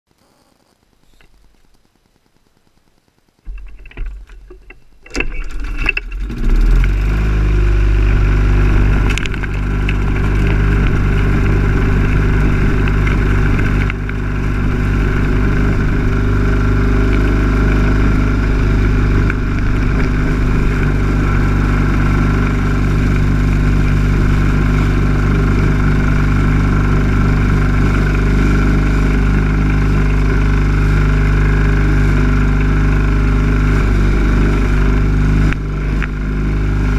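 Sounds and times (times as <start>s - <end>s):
lawn mower engine starting: 3.5s - 36.9s.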